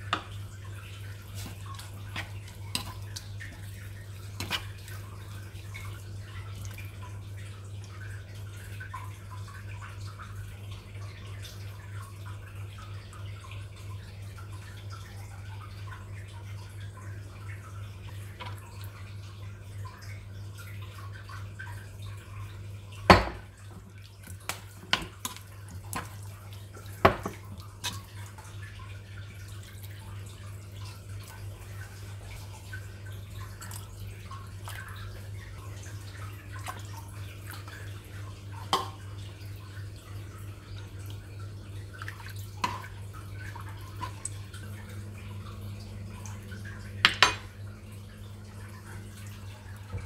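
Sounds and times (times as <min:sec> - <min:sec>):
liquid bubbling in a pot: 0:00.0 - 0:50.0.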